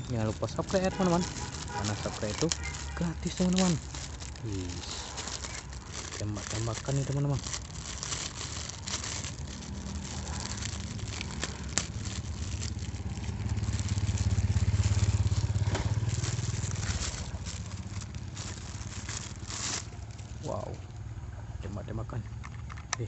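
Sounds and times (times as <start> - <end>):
plastic packaging crackling: 0.0 - 21.1
vehicle engine humming: 0.0 - 23.0.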